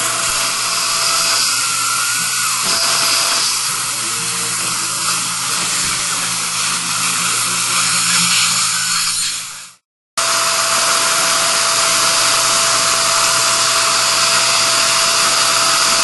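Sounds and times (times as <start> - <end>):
dental drill whining: 0.0 - 16.0.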